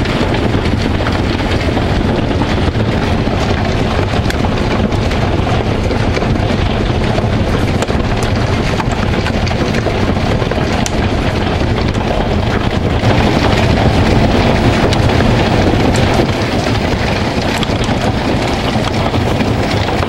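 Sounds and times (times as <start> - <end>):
hail clattering on deck: 0.0 - 20.0
wind buffeting microphone: 0.0 - 20.0.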